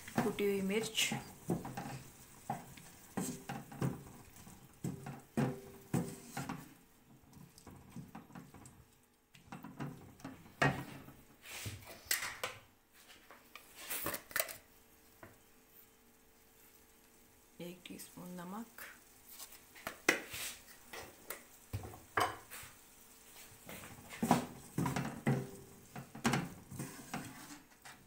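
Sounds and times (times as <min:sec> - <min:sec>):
wooden spatula scraping a wok: 0:00.0 - 0:12.1, 0:12.9 - 0:14.3, 0:18.4 - 0:28.0.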